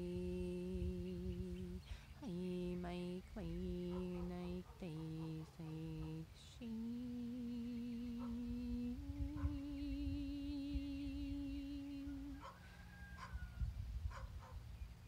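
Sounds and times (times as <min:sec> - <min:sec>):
woman humming: 0:00.0 - 0:12.5.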